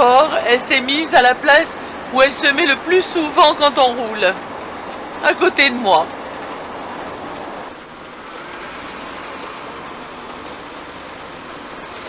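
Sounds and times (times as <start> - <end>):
road and engine noise: 0.0 - 12.0.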